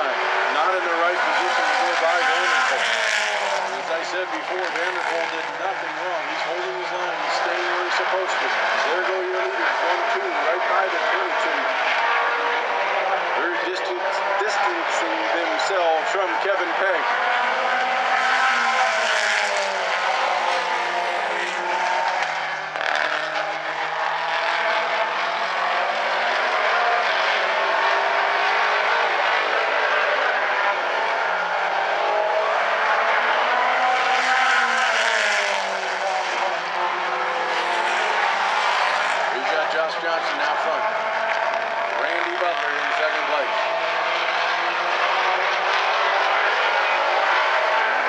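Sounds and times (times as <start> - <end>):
race car engines: 0.0 - 48.0.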